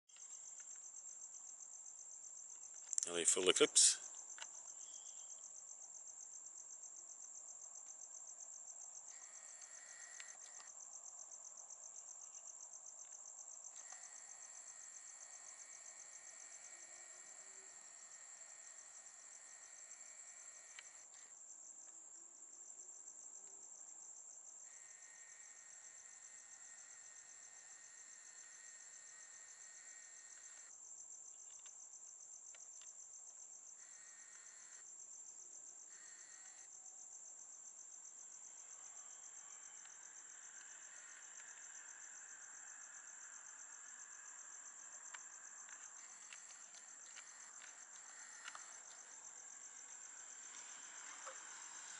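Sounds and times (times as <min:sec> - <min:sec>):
faint crickets chirping: 0:00.1 - 0:51.9.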